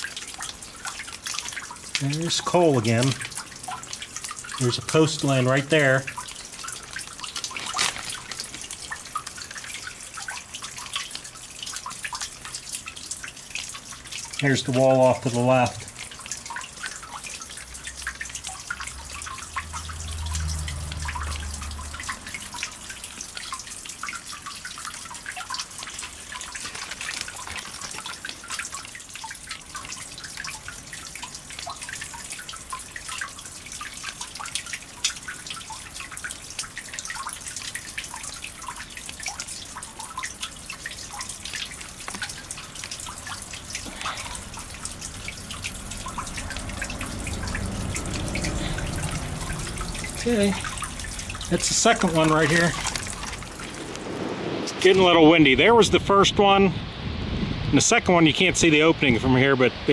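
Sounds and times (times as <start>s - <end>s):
water dripping into a pool: 0.0s - 55.1s.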